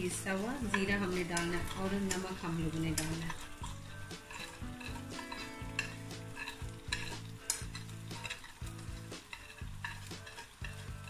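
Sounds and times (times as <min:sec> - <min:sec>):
meat sizzling in oil: 0:00.0 - 0:11.0
wooden spatula scraping: 0:00.0 - 0:11.0.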